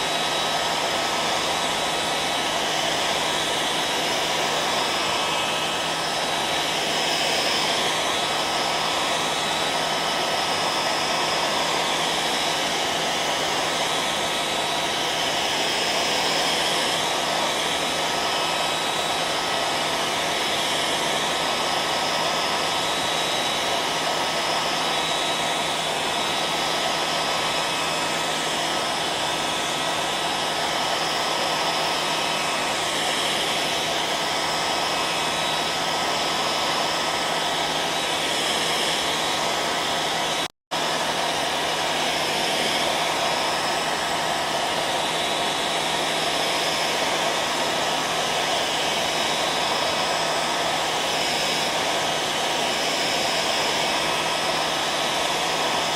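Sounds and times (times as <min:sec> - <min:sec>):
hair dryer running: 0:00.0 - 0:55.9.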